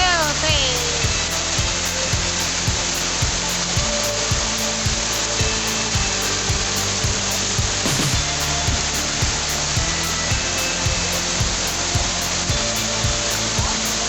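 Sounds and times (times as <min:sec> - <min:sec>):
music with steady beat: 0:00.0 - 0:14.0
loud rushing noise: 0:01.2 - 0:13.7.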